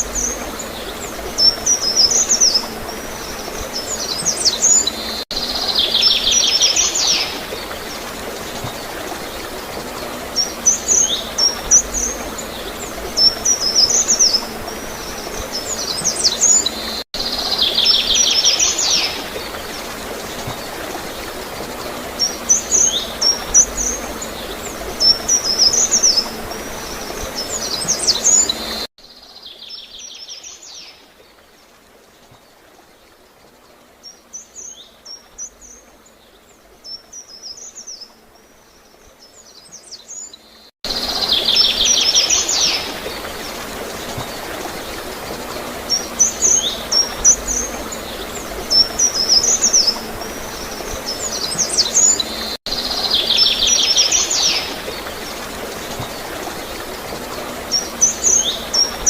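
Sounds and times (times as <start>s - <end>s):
small birds chirping: 0.0s - 31.0s, 39.0s - 59.0s
flowing water gurgling: 0.0s - 59.0s.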